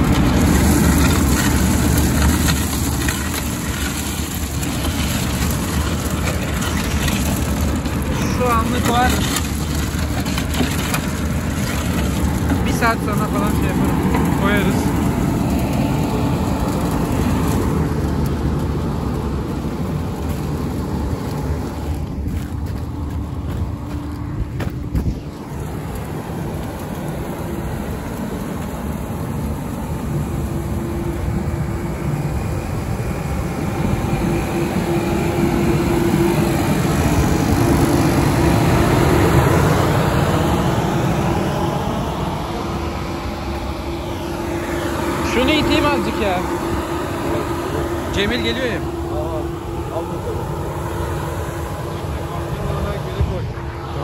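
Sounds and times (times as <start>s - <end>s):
grain dryer machinery rumbling: 0.0s - 54.0s.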